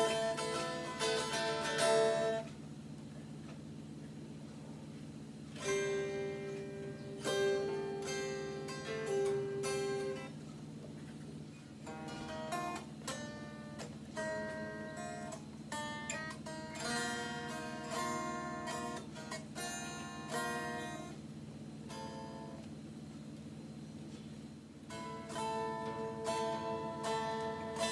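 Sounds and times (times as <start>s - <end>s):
electric guitar chords strummed: 0.0s - 3.7s, 5.4s - 23.0s, 24.8s - 27.9s
steady low hum: 0.0s - 27.9s.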